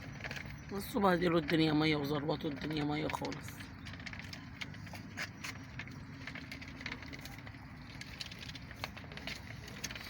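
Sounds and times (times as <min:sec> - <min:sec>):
ducks pecking clicks and taps: 0:00.0 - 0:10.0.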